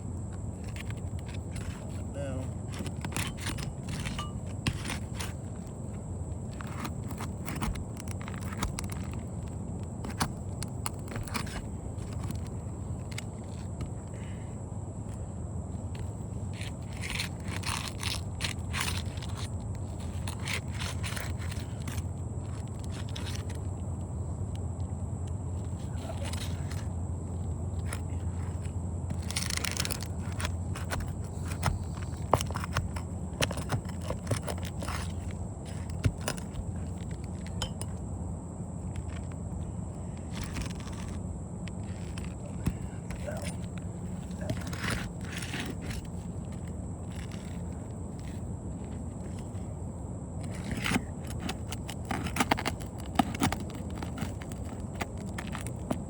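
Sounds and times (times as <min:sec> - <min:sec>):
steady low rumble: 0:00.0 - 0:56.0
roof shingles crackling and scraping: 0:00.4 - 0:14.6, 0:15.2 - 0:37.6, 0:38.8 - 0:56.0.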